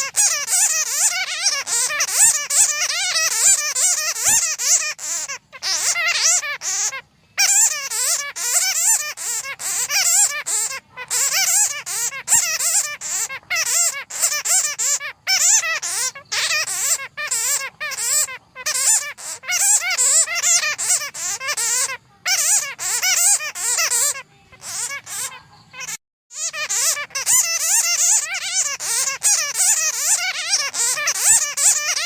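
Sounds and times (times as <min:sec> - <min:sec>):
bats chattering: 0:00.0 - 0:32.0.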